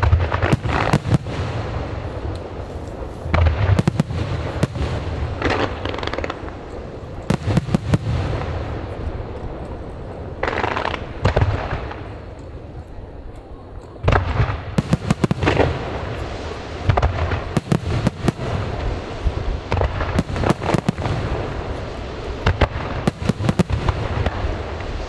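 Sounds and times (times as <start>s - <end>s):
firework shells booming: 0.0s - 12.8s, 13.9s - 25.0s
firework crackling: 0.0s - 25.0s.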